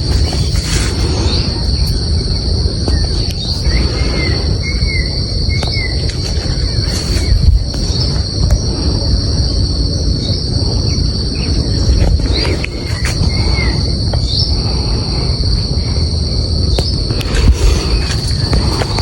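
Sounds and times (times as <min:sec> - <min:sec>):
high-pitched insect chorus: 0:00.0 - 0:19.0
loud low rumble: 0:00.0 - 0:19.0.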